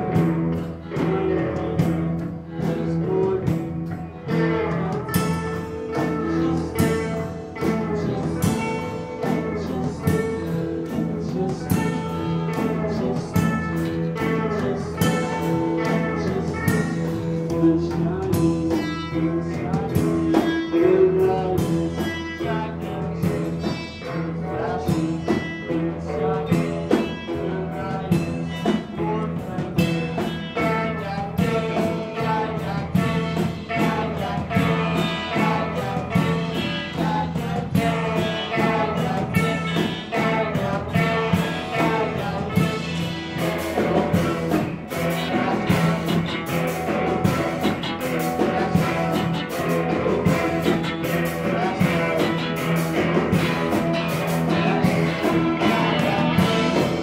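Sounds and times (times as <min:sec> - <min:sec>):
person singing: 0:00.0 - 0:57.0
rock band playing live: 0:00.0 - 0:57.0.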